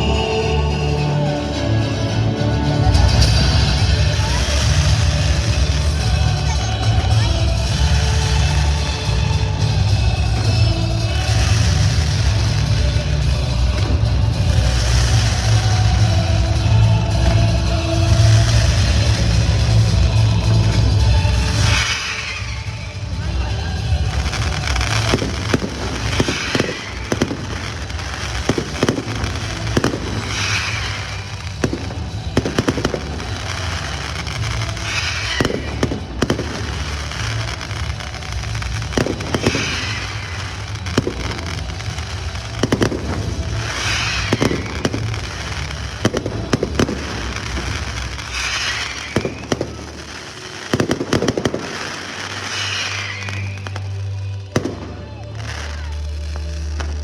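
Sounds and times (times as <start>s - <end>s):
crackling fireworks fizzing: 0.0s - 57.0s
fireworks bangs: 2.9s - 57.0s.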